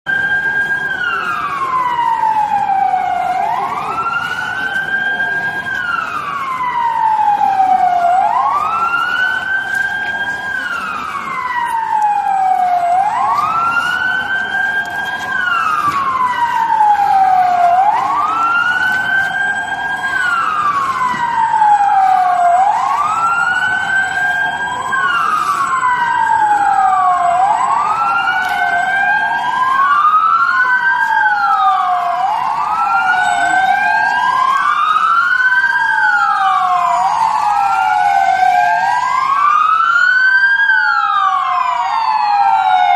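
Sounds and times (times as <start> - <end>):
ambulance siren wailing: 0.0 - 42.9.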